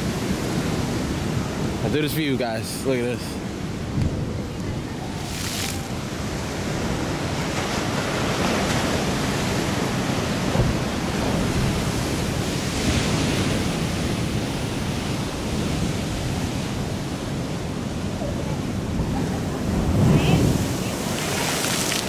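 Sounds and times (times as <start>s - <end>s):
ocean surf breaking: 0.0s - 22.0s
wind rumbling on microphone: 3.3s - 22.0s.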